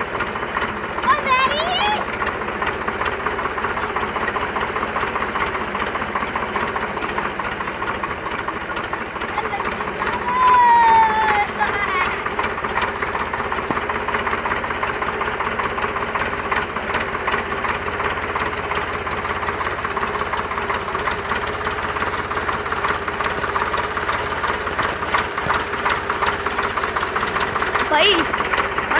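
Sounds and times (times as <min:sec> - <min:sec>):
tractor diesel engine chugging: 0:00.0 - 0:28.9.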